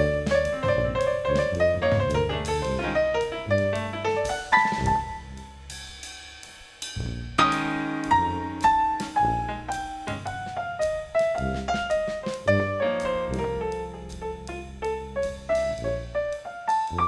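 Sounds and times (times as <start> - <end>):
piano melody: 0.0 - 5.6, 7.4 - 17.0
bass: 0.0 - 17.0
drums: 0.0 - 17.0.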